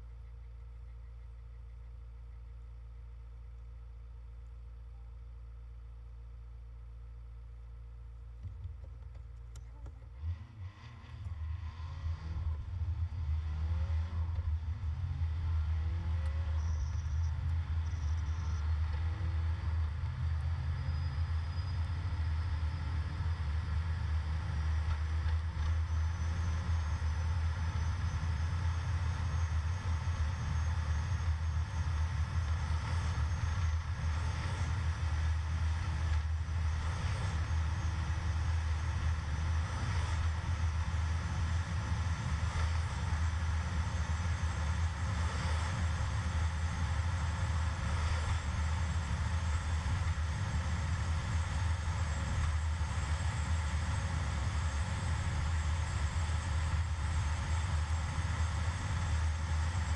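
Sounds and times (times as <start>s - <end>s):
road noise inside cabin: 0.0s - 59.9s
vehicle engine drone: 0.0s - 59.9s.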